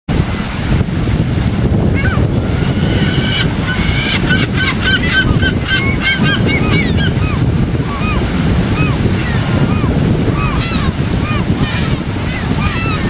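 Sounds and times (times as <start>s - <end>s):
gulls calling: 1.8s - 13.0s.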